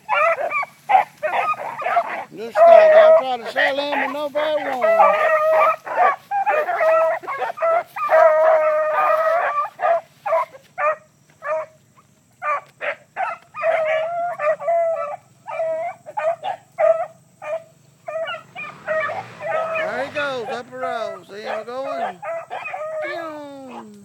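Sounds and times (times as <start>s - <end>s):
beagles baying: 0.0s - 24.0s.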